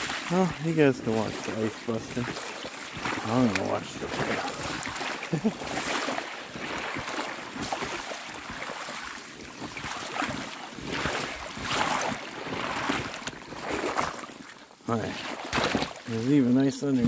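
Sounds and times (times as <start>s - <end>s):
boots sloshing through water: 0.0s - 17.0s.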